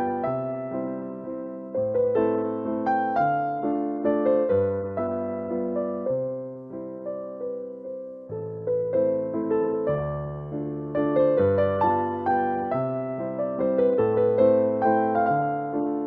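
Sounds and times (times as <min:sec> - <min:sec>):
soft electric piano chords: 0:00.0 - 0:16.0.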